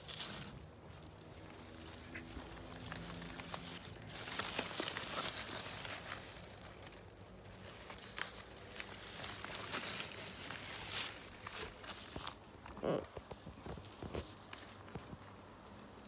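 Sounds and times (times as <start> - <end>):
leaves rustling against phone: 0.0 - 16.0.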